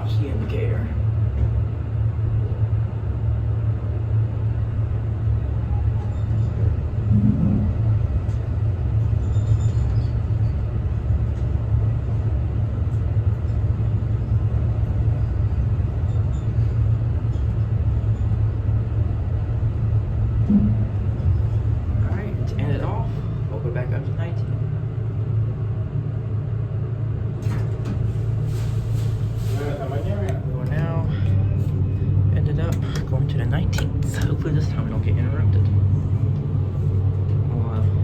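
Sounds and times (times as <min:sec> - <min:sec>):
elevator rumble: 0:00.0 - 0:38.0.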